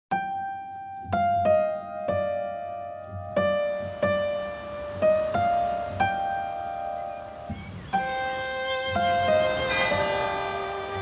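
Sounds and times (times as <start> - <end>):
slow solo piano: 0.1 - 11.0.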